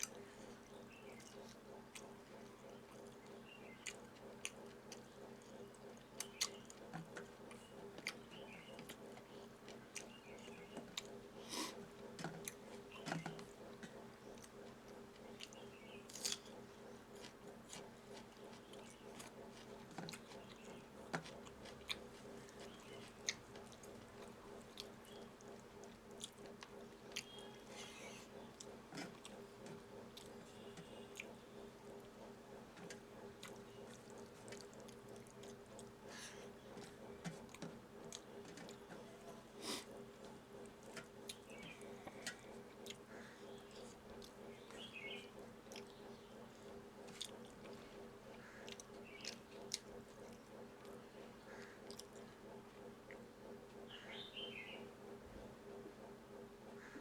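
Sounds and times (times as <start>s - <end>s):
person chewing food: 0.0s - 53.8s
faint steady hum: 0.0s - 57.0s.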